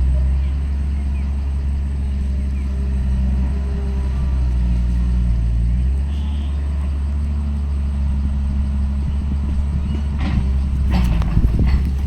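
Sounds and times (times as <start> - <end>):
diesel machine engine rumbling: 0.0 - 12.0.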